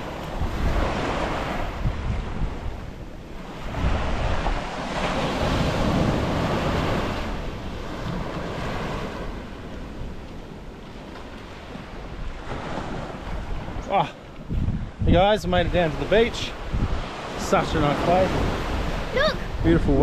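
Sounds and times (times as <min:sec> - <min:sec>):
surf breaking on beach: 0:00.0 - 0:10.2, 0:10.9 - 0:20.0
wind buffeting microphone: 0:00.0 - 0:20.0.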